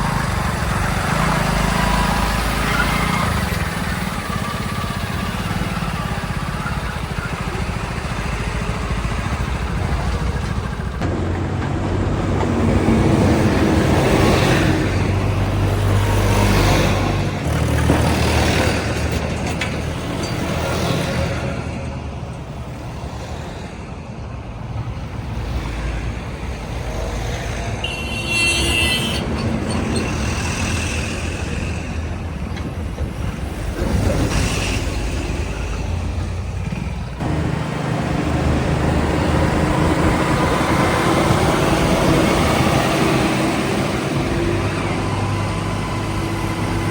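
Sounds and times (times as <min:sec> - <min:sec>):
heavy diesel engines working: 0:00.0 - 0:46.9.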